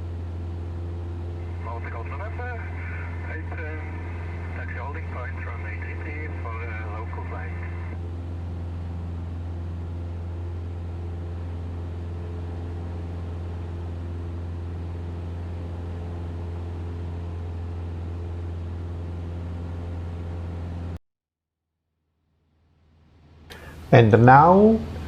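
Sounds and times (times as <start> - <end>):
aircraft engine and propeller droning: 0.0 - 21.0, 23.6 - 25.0.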